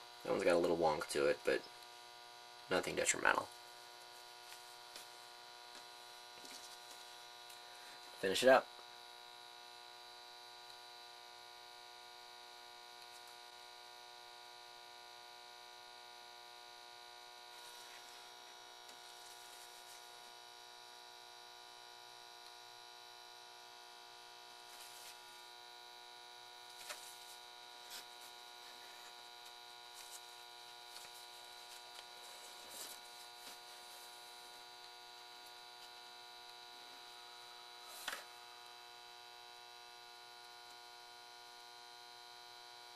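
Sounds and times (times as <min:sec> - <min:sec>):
electrical hum with high whine: 0:00.0 - 0:42.9.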